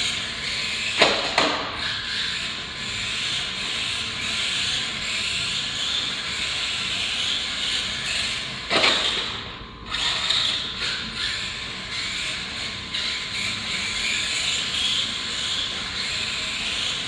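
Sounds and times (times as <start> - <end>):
toy car motor whine: 0.0 - 17.0.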